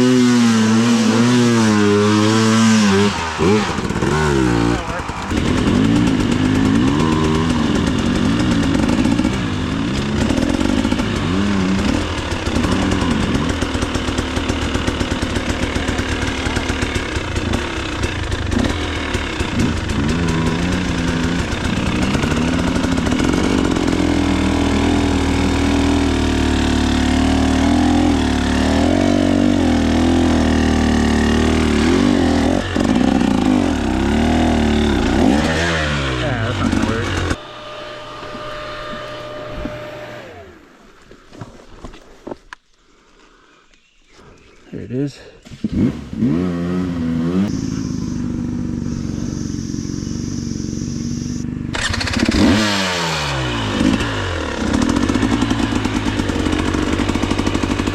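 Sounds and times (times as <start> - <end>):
dirt bike engine revving: 0.0 - 41.0, 45.4 - 57.9.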